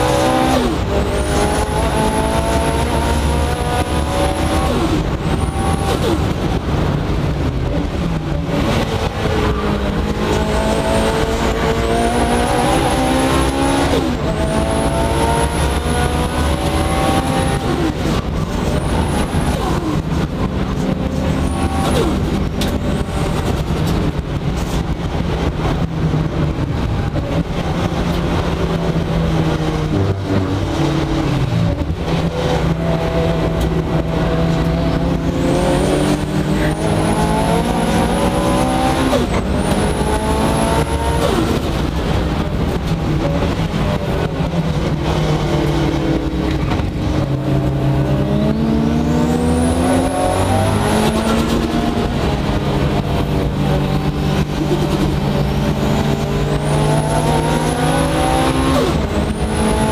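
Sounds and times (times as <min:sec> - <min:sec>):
high turbo whine: 0:00.0 - 0:59.9
race car engine pulling hard: 0:00.0 - 0:59.9.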